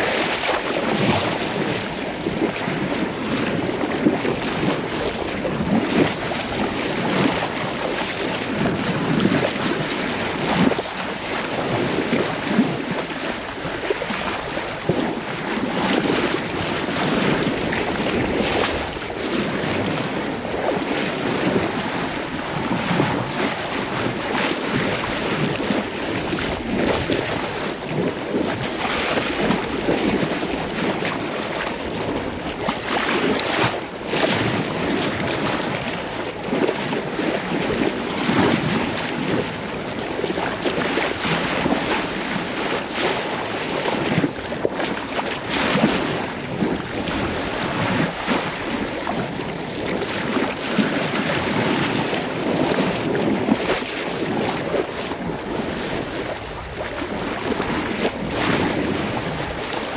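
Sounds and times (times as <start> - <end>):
sea water splashing along hull: 0.0 - 59.9
wind buffeting microphone: 0.0 - 59.9.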